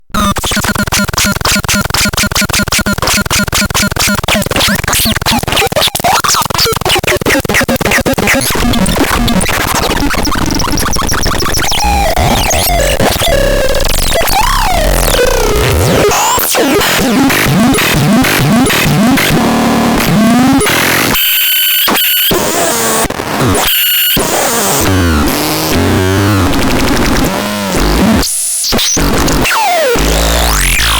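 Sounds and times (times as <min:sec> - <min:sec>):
glitchy electronic noise: 0:00.1 - 0:30.9.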